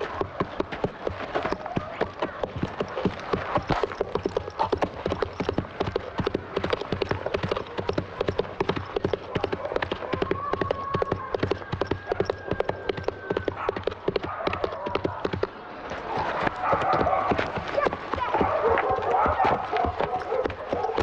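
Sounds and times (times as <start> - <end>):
hoofbeats of running horses: 0.0 - 21.0.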